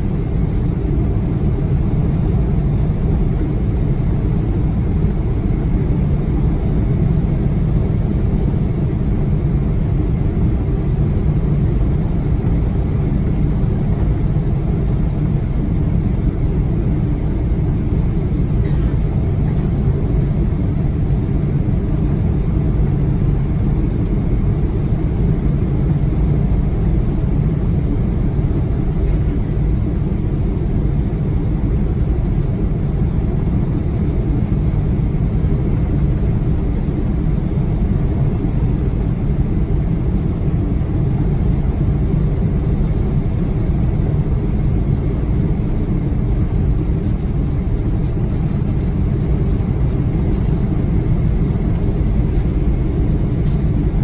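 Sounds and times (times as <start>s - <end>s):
jet engine and airflow rumble: 0.0s - 54.0s.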